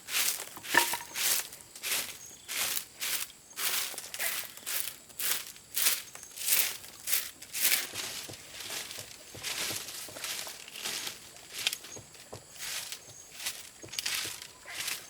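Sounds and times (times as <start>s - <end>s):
dry rustling and crunching: 0.0s - 15.0s.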